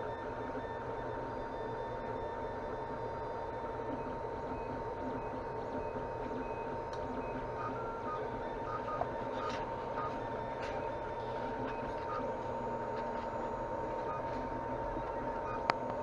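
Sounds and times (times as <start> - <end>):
printer fans running: 0.0 - 16.0.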